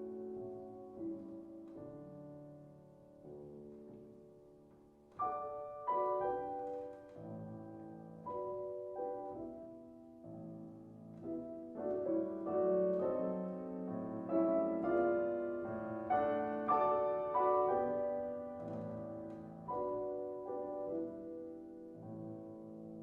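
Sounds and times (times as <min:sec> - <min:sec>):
solo piano classical piece: 0:00.0 - 0:23.0.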